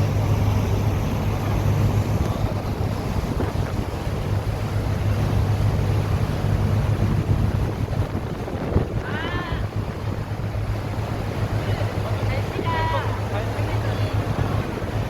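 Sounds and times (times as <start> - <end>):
boat engine droning: 0.0 - 15.0
water rushing: 0.0 - 15.0
wind buffeting microphone: 0.0 - 15.0.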